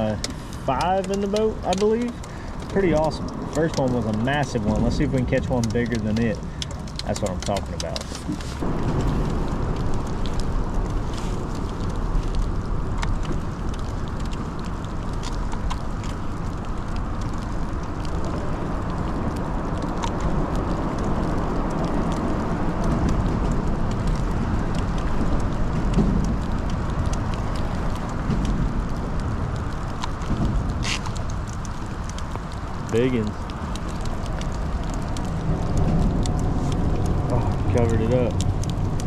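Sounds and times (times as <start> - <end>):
rain falling: 0.0 - 39.0
raindrops ticking: 0.0 - 39.0
wind on microphone: 6.4 - 39.0.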